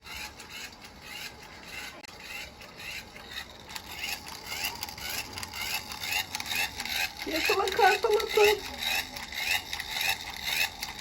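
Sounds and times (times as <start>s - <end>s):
rhythmic rubbing strokes: 0.0s - 11.0s.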